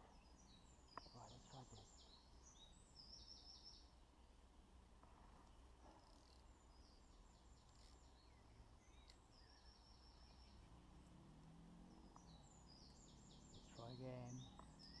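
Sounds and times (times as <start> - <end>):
small bird chirping: 0.0 - 4.0, 5.4 - 11.0, 11.8 - 15.0.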